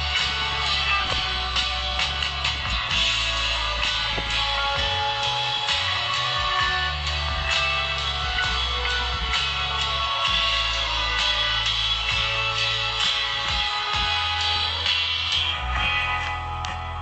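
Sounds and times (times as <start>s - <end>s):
instrumental guitar music with bass: 0.0s - 17.0s.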